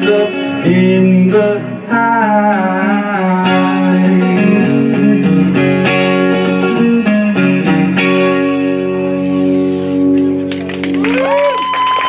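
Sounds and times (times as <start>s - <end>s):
electric guitar picked chords: 0.0s - 11.6s.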